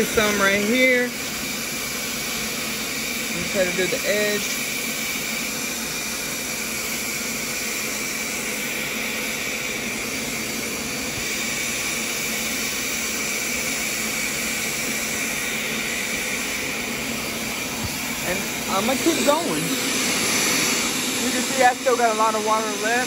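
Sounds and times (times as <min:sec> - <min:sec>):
carpet cleaner suction hiss: 0:00.0 - 0:23.0.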